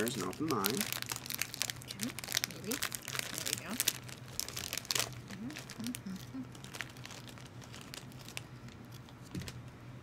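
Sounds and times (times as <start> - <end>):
plastic snack packets crackling: 0.0 - 9.7.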